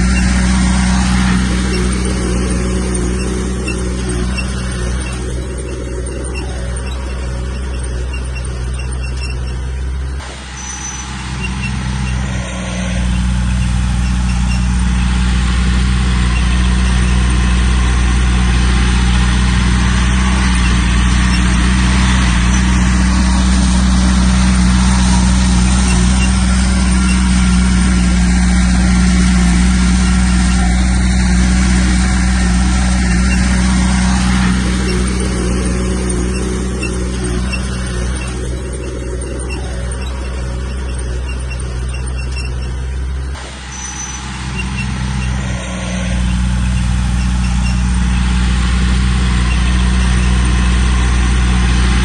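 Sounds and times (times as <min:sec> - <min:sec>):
heavy diesel engine humming: 0:00.0 - 0:52.0.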